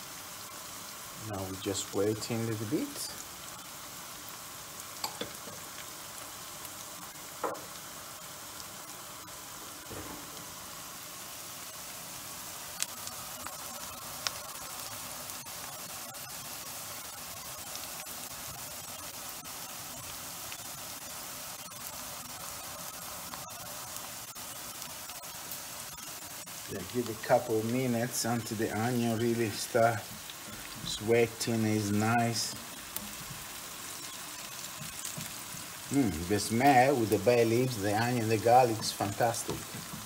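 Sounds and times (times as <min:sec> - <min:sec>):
onion sizzling in oil: 0:00.0 - 0:40.0.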